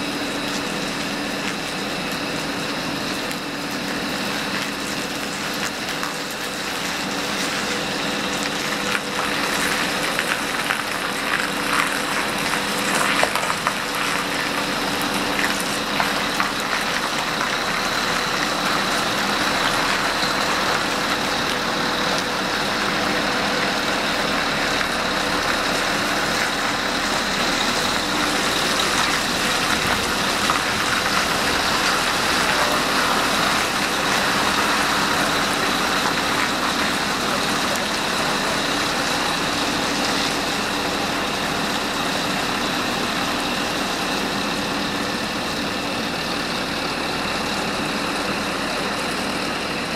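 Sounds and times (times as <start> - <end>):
high whine: 0.0 - 49.9
truck engine and tyres: 0.0 - 49.9.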